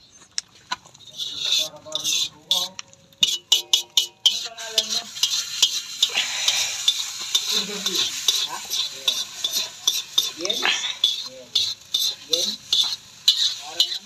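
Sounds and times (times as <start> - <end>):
eggs sizzling in oil: 0.0 - 14.0
metal spoon scraping wok: 0.9 - 14.0.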